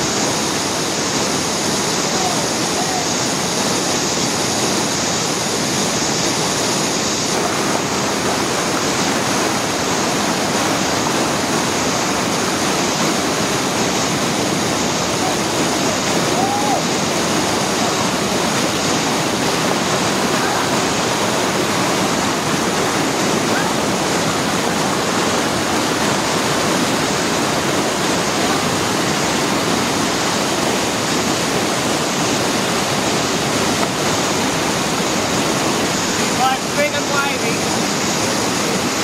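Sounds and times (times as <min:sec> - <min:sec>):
whitewater rushing: 0:00.0 - 0:39.0.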